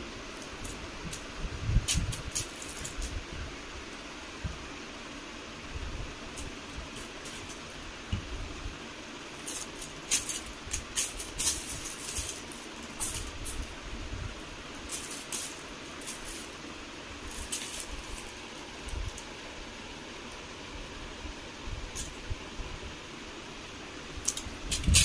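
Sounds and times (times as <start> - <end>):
steady background hiss: 0.0 - 25.0.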